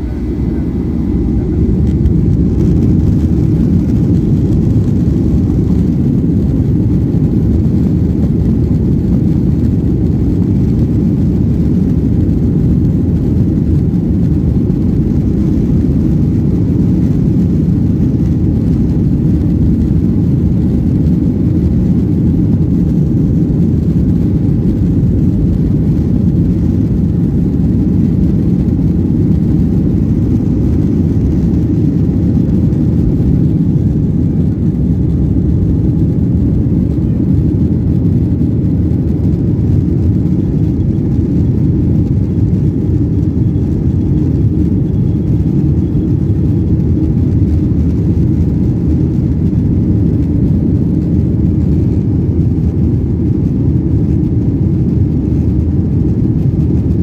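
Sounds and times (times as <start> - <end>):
jet engines rumbling at takeoff: 0.0 - 57.0.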